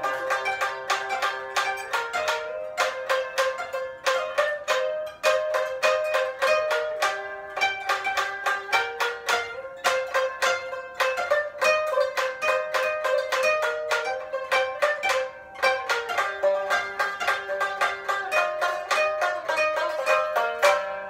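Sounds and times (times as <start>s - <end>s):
plucked string instruments: 0.0s - 21.0s.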